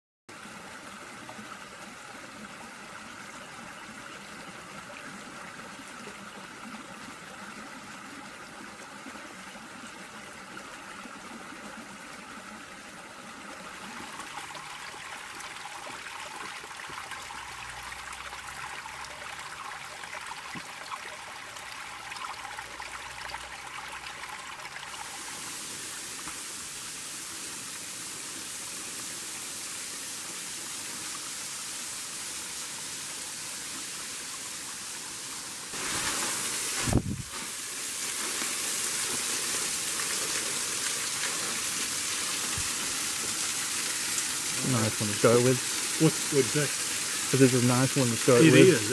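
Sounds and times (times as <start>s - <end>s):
creek and waterfall rushing: 0.3s - 48.9s.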